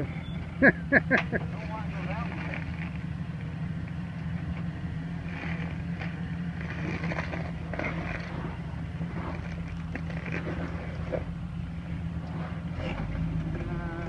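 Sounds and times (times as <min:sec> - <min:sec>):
engine running at low revs: 0:00.0 - 0:14.0
tires crunching and scraping on rock: 0:00.0 - 0:14.0.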